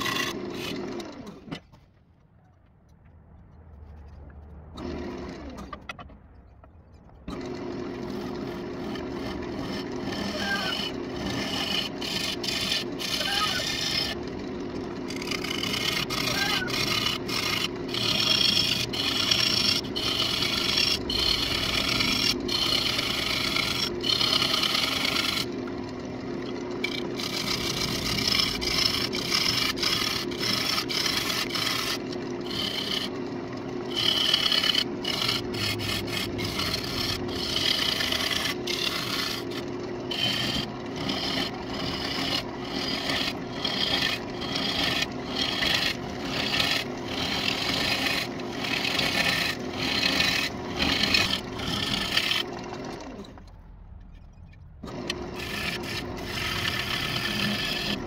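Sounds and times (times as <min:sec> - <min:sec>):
lathe humming: 0:00.0 - 0:01.6, 0:04.7 - 0:06.0, 0:07.3 - 0:53.6, 0:54.8 - 0:58.0
lathe tool scraping wood: 0:00.0 - 0:01.9, 0:03.8 - 0:06.3, 0:07.2 - 0:53.5, 0:54.8 - 0:58.0.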